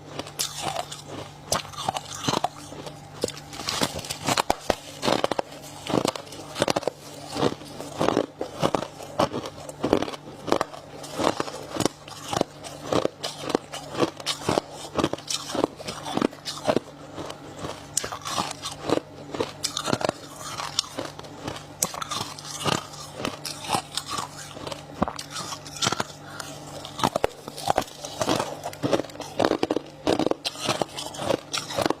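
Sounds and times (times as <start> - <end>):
crunching ice sticks: 0.0 - 32.0
faint steady hum: 0.0 - 32.0.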